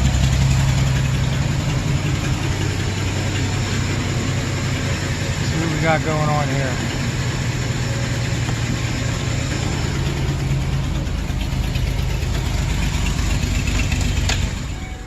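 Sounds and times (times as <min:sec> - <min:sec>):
misfiring van engine idling: 0:00.0 - 0:15.0.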